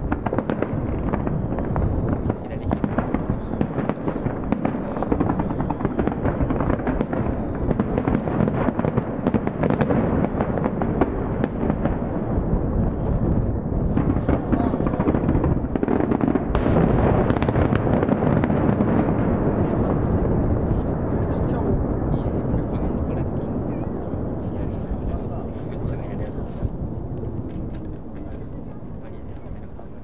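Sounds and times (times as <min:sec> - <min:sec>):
sharp firework cracks: 0:00.0 - 0:23.4, 0:24.0 - 0:29.6
fireworks bangs and crackles: 0:00.0 - 0:30.0.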